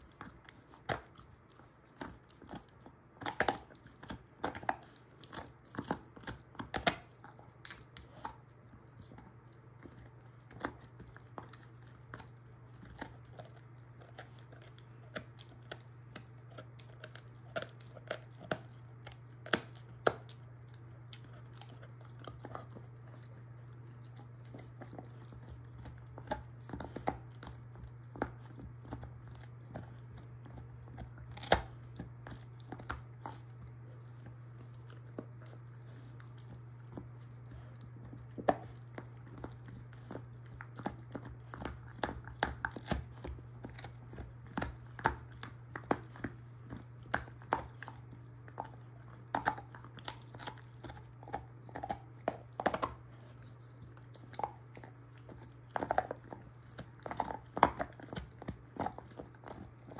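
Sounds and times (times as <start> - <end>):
dog gnawing a bone: 0.0 - 59.9
steady low hum: 0.0 - 59.9
teeth crunching on bone: 0.0 - 59.9.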